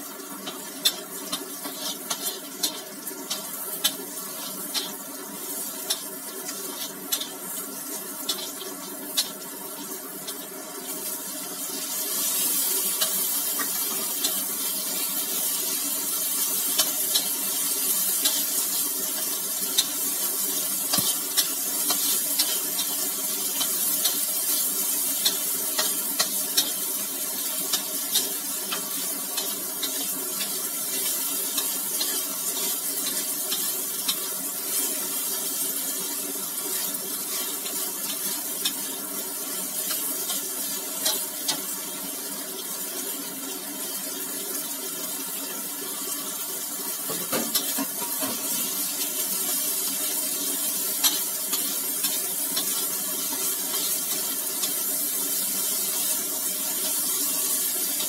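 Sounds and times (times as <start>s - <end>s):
food sizzling in a wok: 0.0s - 58.0s.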